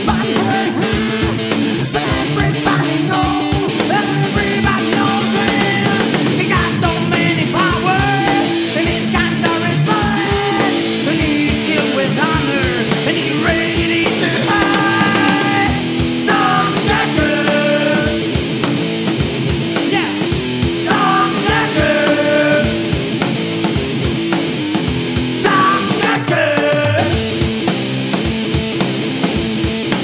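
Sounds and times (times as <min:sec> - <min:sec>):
rock and roll band music: 0:00.0 - 0:30.0.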